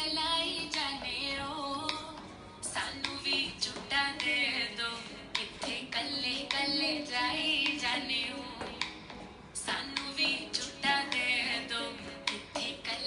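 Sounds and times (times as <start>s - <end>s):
woman singing dance song: 0.0s - 13.0s.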